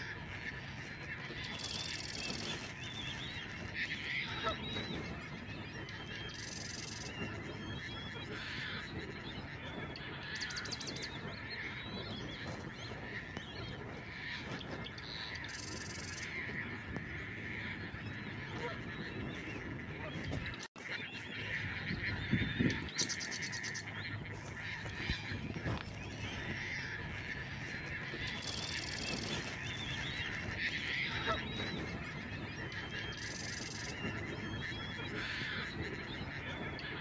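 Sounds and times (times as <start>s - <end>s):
birds calling: 0.0s - 37.0s
high rapid bird trill: 0.0s - 37.0s.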